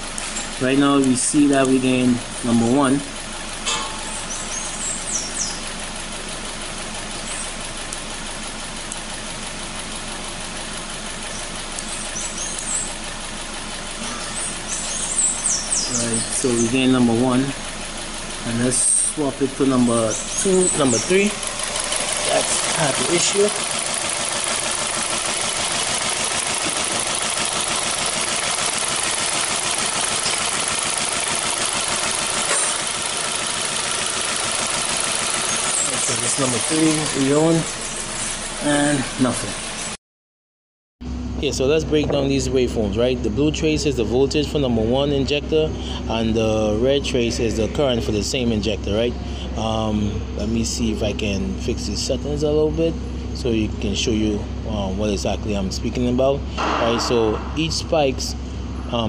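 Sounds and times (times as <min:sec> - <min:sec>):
car engine idling with misfire: 0:00.0 - 0:40.0, 0:41.0 - 0:59.0.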